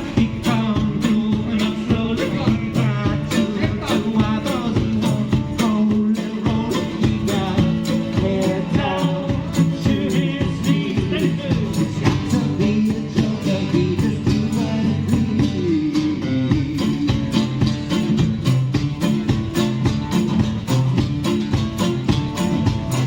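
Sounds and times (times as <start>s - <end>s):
person singing: 0.0s - 19.8s
band steady beat: 0.0s - 23.0s
guitar: 0.0s - 23.0s.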